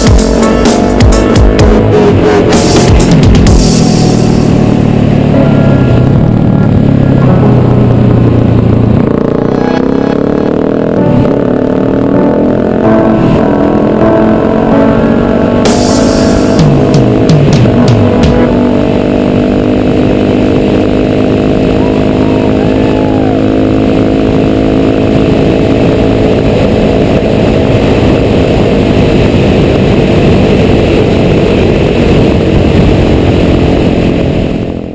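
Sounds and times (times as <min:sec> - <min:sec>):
motorcycle engine running steadily: 0:00.0 - 0:34.9.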